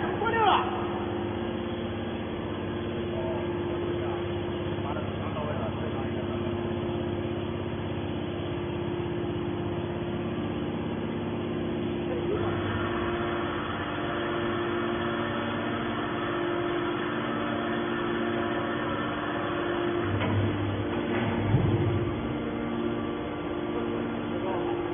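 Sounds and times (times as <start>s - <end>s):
hydraulic motor and pump hum: 0.0s - 24.9s.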